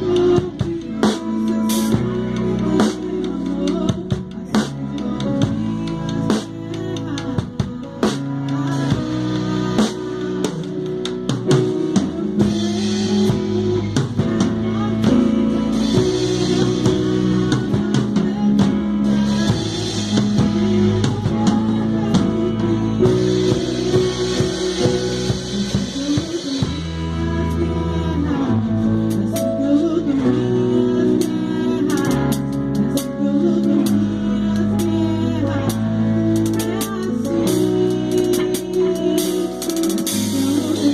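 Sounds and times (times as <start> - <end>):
bass guitar: 0.0 - 40.9
drum kit with cymbals: 0.0 - 40.9
electric guitars: 0.0 - 40.9
keyboard chords: 0.0 - 40.9.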